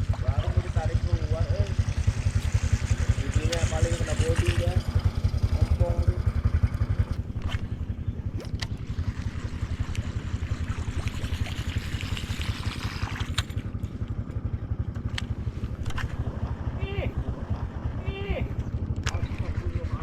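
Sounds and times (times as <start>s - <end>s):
small boat engine puttering: 0.0s - 20.0s.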